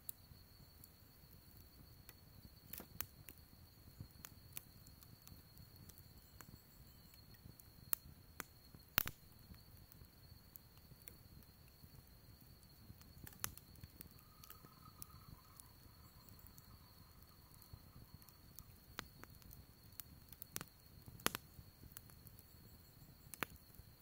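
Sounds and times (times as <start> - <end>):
steady high-pitched whine: 0.0 - 24.0
wood fire crackling: 0.0 - 24.0.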